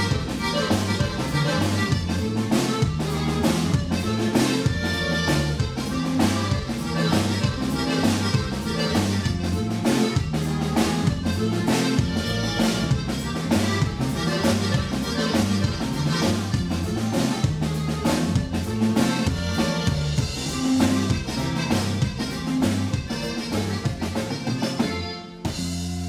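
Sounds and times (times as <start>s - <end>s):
accordion: 0.0s - 26.0s
congas: 0.0s - 26.0s
live band playing: 0.0s - 26.0s.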